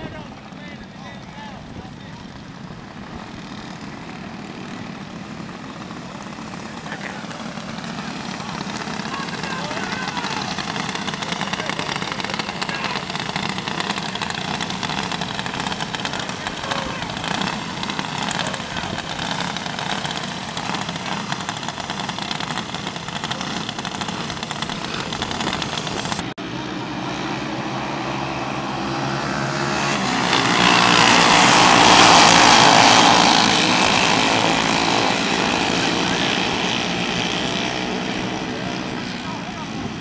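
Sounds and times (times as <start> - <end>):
kart engines running hard: 0.0 - 40.0.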